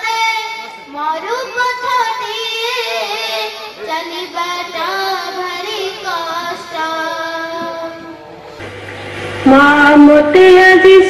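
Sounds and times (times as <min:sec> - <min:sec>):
girl singing into microphone: 0:00.0 - 0:08.2, 0:09.5 - 0:11.0.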